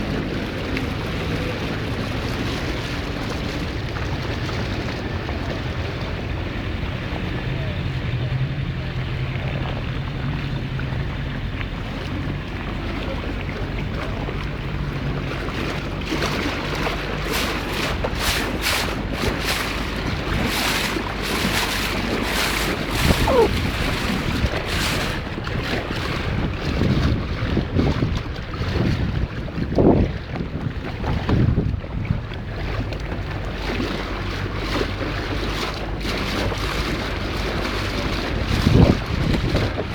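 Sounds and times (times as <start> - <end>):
water noise: 0.0 - 39.9
wind buffeting microphone: 0.0 - 39.9.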